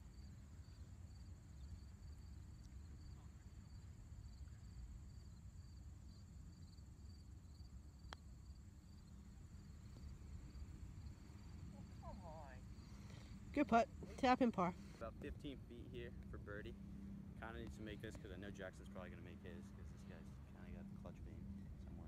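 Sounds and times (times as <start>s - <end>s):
crickets chirping: 0.0s - 21.8s.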